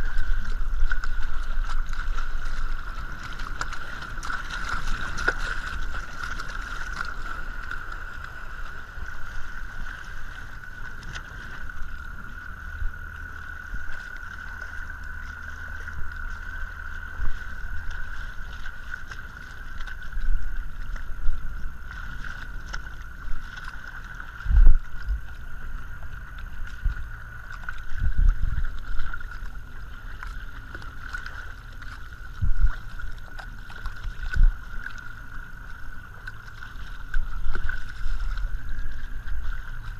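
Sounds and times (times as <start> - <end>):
heavy water slaps on hull: 0.0 - 39.9
outboard motor whine: 0.0 - 39.9
water splashing against hull: 0.0 - 39.9.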